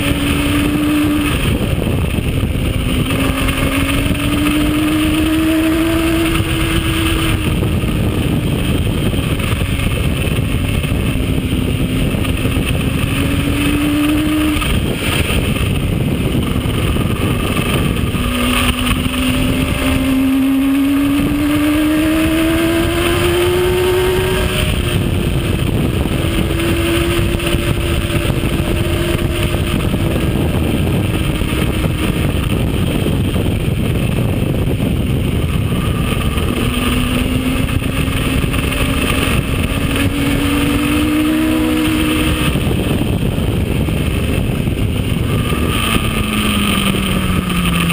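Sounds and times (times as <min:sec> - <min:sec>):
motorcycle engine at speed: 0:00.0 - 0:47.9
wind noise: 0:00.0 - 0:47.9.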